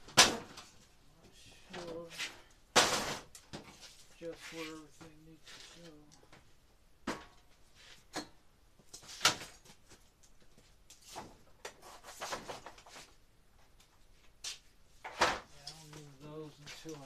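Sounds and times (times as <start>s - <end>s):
rustling: 0.3s - 6.6s, 8.8s - 17.0s.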